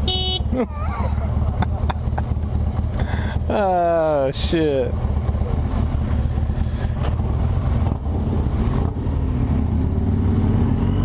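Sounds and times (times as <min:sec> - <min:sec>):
motorcycle engine droning: 0:00.0 - 0:11.0
wind and road rush: 0:00.0 - 0:11.0.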